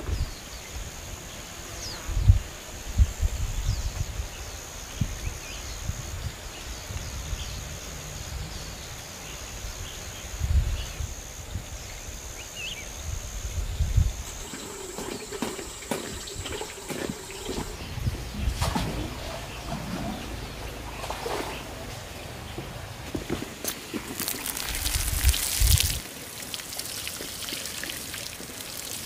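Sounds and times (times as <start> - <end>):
wind rumbling on microphone: 0.0 - 1.2, 2.0 - 26.1.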